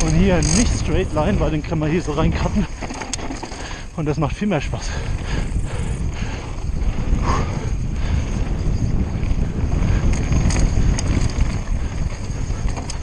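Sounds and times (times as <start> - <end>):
bike rattling clacks: 0.0 - 13.0
bike tyres rumbling on trail: 0.0 - 13.0
wind buffeting microphone: 0.0 - 13.0.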